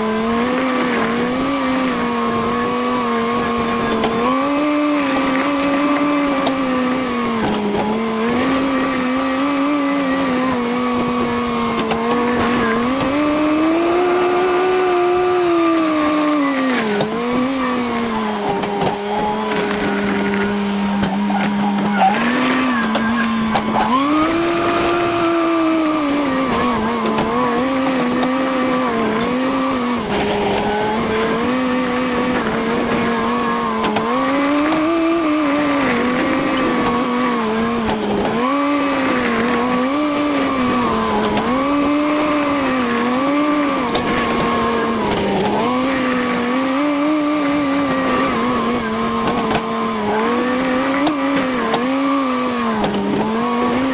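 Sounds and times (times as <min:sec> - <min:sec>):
tractor engine rising and falling: 0:00.0 - 0:53.9.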